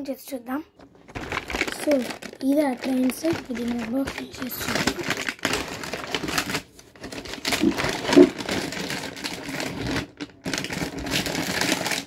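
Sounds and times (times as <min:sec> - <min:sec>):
packaging rustling and crinkling: 0:00.7 - 0:12.0.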